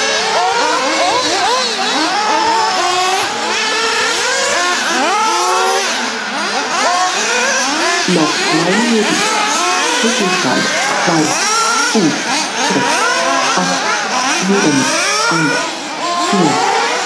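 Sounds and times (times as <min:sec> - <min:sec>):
small engines whining: 0:00.0 - 0:17.0.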